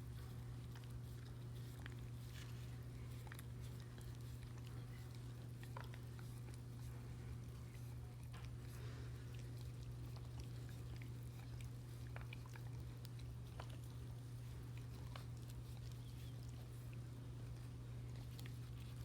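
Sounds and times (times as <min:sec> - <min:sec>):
dog chewing corn cob: 0:00.0 - 0:19.0.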